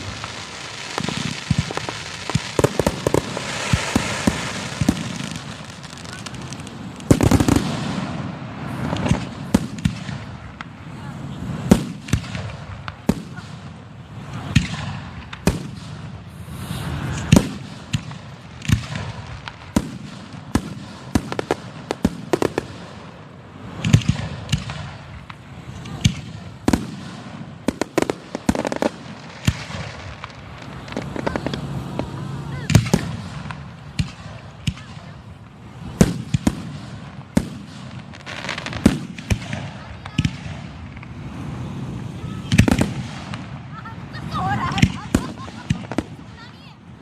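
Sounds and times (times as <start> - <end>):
fireworks bangs: 0.0 - 47.0
rapid crackling fireworks: 0.0 - 47.0
rumble of fireworks display: 0.0 - 47.0.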